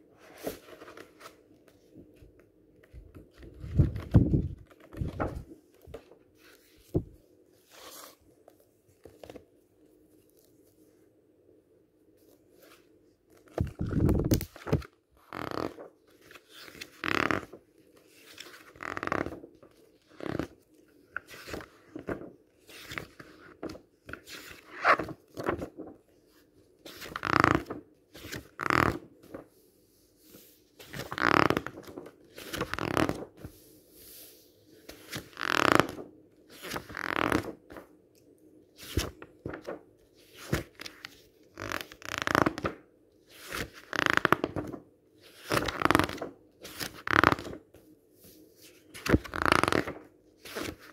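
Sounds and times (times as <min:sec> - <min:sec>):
book pages turning: 0:00.2 - 0:10.8, 0:12.1 - 0:29.5, 0:30.3 - 0:33.6, 0:34.8 - 0:50.9.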